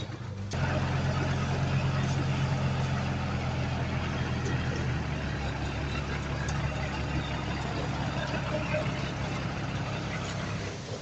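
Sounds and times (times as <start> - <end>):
heavy diesel engine running: 0.2 - 11.0.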